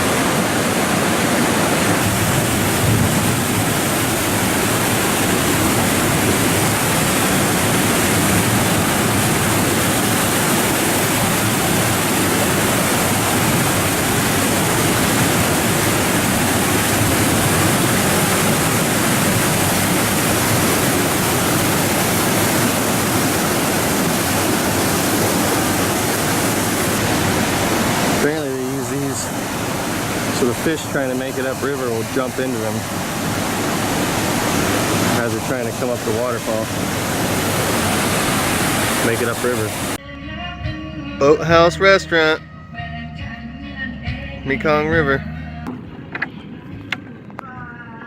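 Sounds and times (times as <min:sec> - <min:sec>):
waterfall crashing over rocks: 0:00.0 - 0:40.0.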